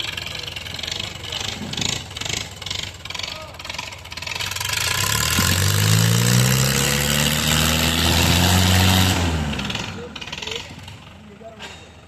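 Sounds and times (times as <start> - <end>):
tractor diesel engine at high revs: 0.0 - 12.0.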